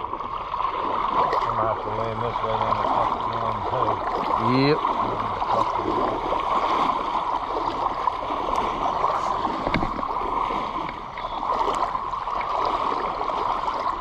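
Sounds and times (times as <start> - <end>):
creek water over rocks: 0.0 - 14.0.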